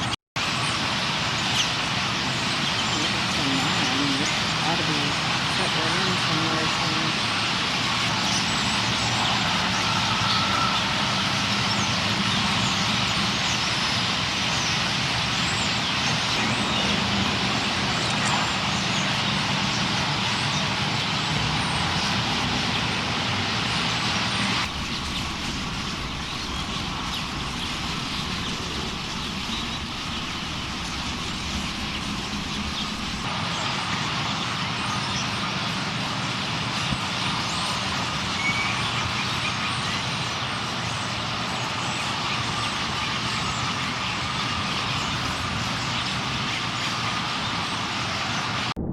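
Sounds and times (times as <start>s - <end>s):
flock of birds chattering: 0.0s - 48.7s
road traffic rumble: 0.0s - 48.9s.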